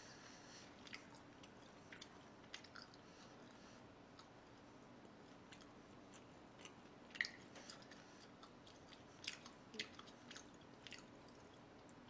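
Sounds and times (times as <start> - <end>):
close chewing: 0.7 - 4.4, 5.1 - 12.0.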